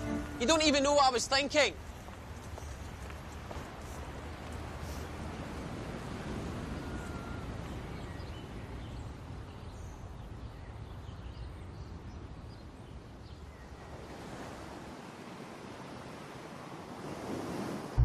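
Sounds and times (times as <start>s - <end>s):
distant surf: 0.0s - 18.0s
wind: 0.0s - 18.0s.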